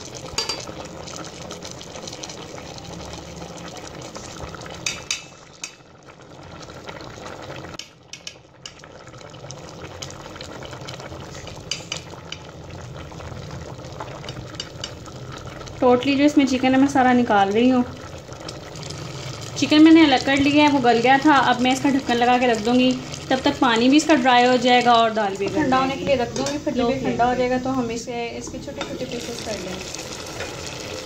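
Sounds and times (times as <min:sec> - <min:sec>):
pot bubbling: 0:00.0 - 0:31.0.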